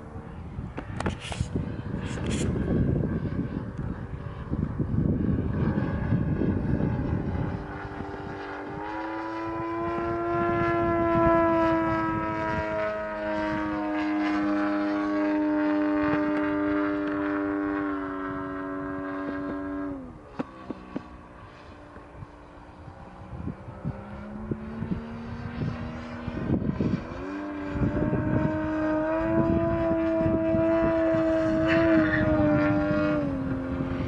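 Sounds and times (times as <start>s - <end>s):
model aeroplane engine droning: 0.0s - 34.0s.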